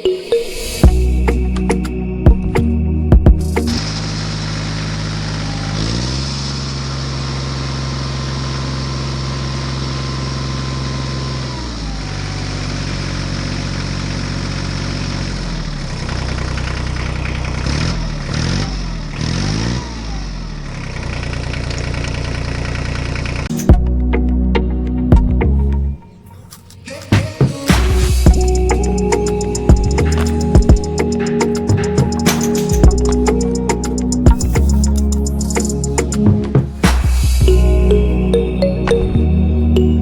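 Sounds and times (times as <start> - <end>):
tractor engine revving: 0.8 - 23.8, 27.7 - 40.0
tractor engine running: 0.8 - 24.0, 27.7 - 40.0.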